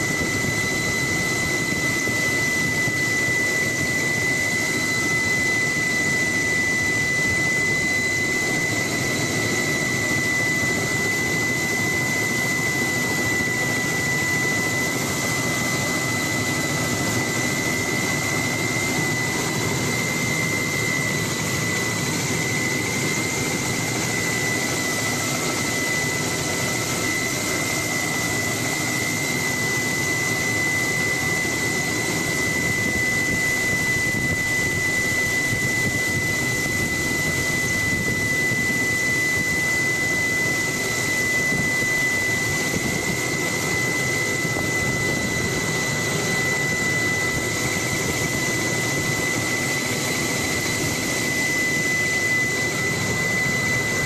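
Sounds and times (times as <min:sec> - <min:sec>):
helicopter turbine and rotor: 0:00.0 - 0:54.0.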